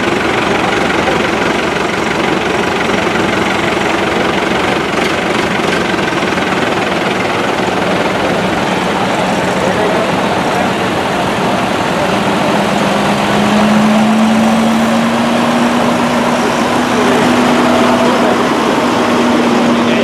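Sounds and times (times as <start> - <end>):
tractor diesel engine passing: 0.0 - 20.0
tractor engines in background: 0.0 - 20.0.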